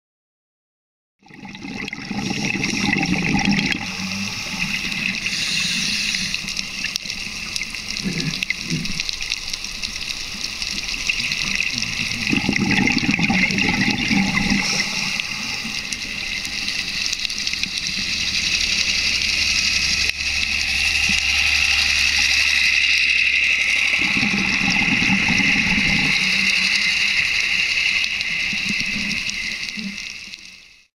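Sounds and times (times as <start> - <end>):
exhaled bubbles rushing underwater: 1.2 - 30.9
steady hiss: 3.7 - 30.9.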